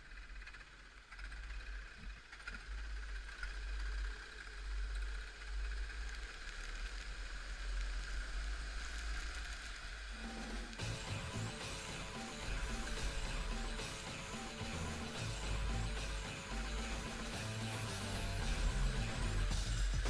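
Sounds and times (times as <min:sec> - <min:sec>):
kart engine drone: 0:00.0 - 0:20.0.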